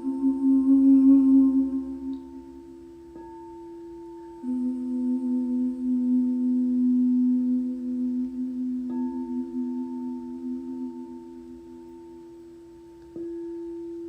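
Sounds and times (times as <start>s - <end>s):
singing bowls ringing: 0.0s - 14.0s.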